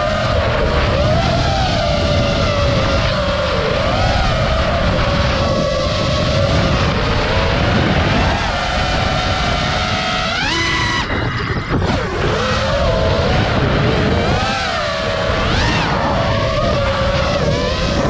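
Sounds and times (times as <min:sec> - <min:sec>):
drone motors whining: 0:00.0 - 0:18.0
low rumble of wind: 0:00.0 - 0:18.0.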